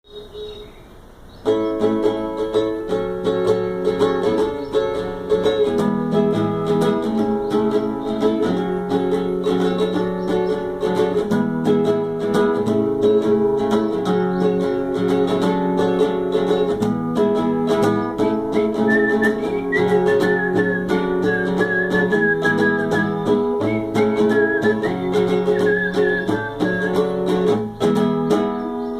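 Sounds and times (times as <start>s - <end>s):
plucked string instrument: 1.3s - 28.9s.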